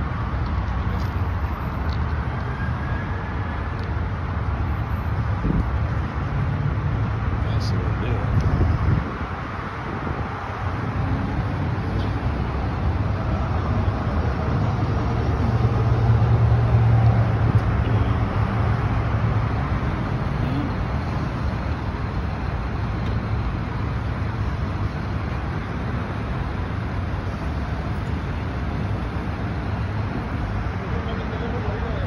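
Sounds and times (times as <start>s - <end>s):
heavy vehicle engine humming: 0.0s - 32.0s
road traffic: 0.0s - 32.0s.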